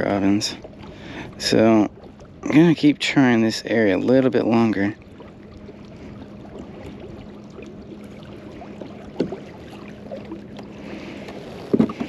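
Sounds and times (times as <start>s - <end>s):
faint steady hum: 0.0s - 12.0s
water lapping against kayak hull: 0.0s - 12.0s.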